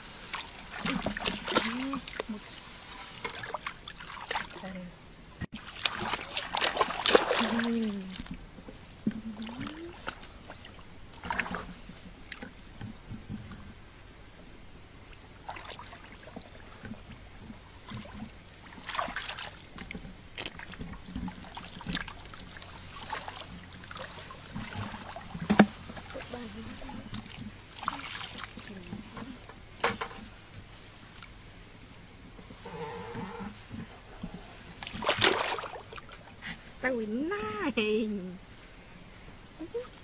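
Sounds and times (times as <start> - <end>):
muddy water splashing: 0.0 - 4.9, 5.5 - 13.8, 15.0 - 31.4, 34.4 - 38.2.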